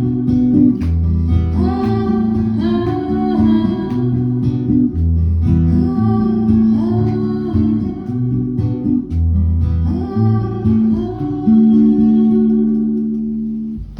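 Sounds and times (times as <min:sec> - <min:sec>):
acoustic guitar playing: 0:00.0 - 0:13.9.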